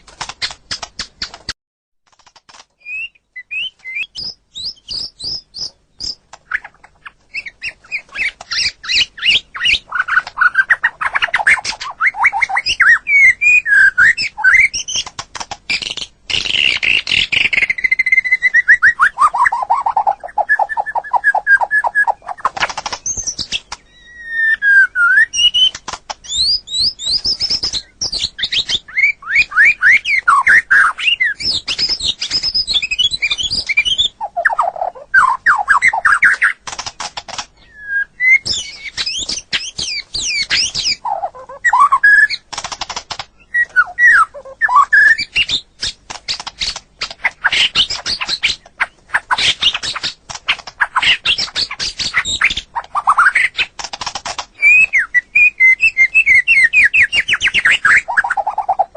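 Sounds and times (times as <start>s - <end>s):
bird singing fast varied song: 2.8s - 53.8s, 54.5s - 58.9s.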